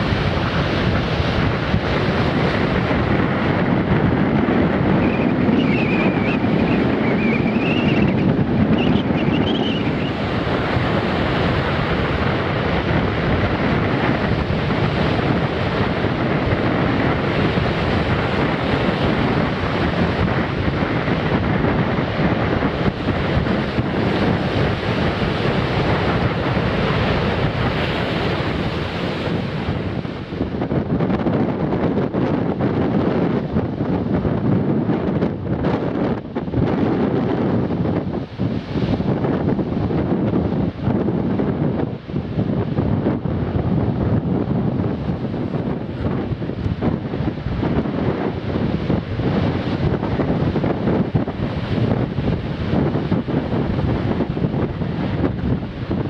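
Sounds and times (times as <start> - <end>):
surf breaking on beach: 0.0 - 56.0
wind buffeting microphone: 0.0 - 56.0.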